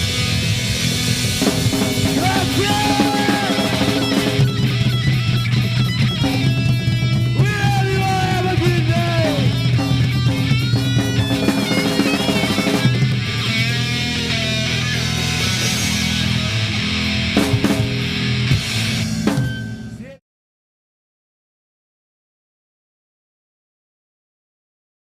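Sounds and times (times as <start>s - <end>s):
bass and drums: 0.0s - 20.2s
distorted electric guitar lead: 0.0s - 20.2s.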